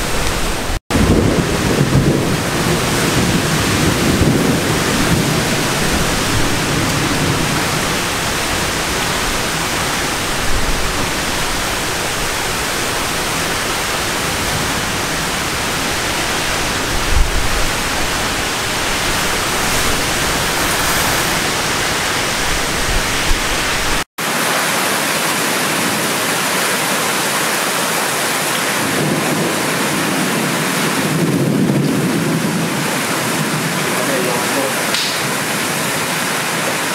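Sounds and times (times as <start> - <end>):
torrential rain: 0.0 - 36.9.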